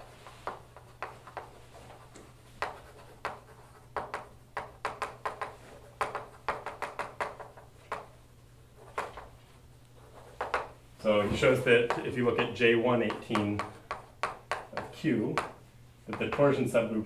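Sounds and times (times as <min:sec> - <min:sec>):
chalk tapping on blackboard: 0:00.0 - 0:08.2, 0:08.8 - 0:10.8, 0:11.8 - 0:16.6
faint low room hum: 0:00.0 - 0:17.0.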